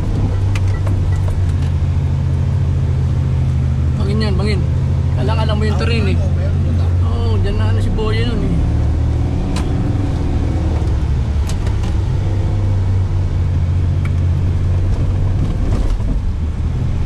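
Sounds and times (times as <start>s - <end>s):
engine and tyre drone: 0.0s - 17.0s.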